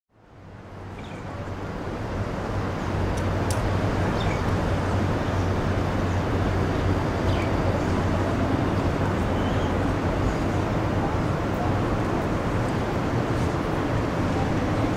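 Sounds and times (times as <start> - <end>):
low rumble of distant traffic: 0.1 - 14.9.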